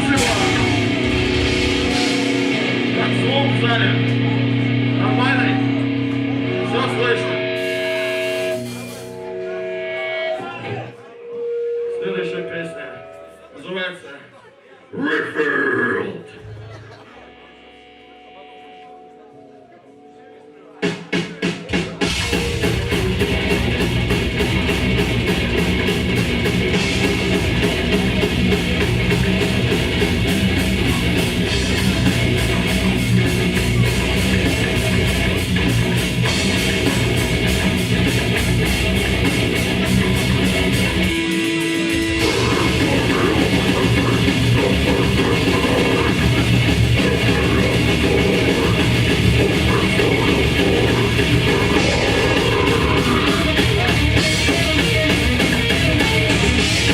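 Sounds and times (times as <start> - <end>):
drum kit: 0.0 - 9.8, 20.8 - 56.9
bass guitar: 0.0 - 11.0, 20.9 - 56.9
distorted guitars: 0.0 - 56.9.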